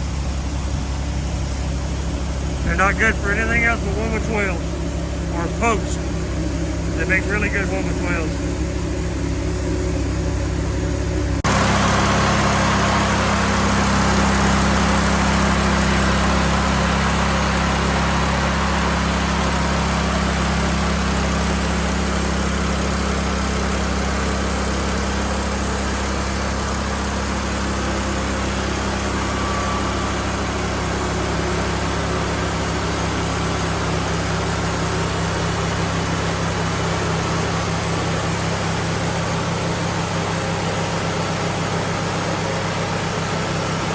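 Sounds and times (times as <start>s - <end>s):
sawmill engine hum: 0.0s - 43.9s.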